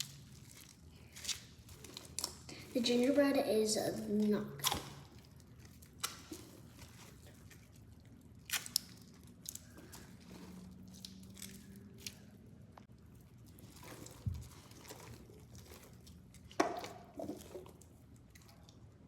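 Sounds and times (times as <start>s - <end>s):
wet squelches of squeezed foam: 0.0s - 18.9s.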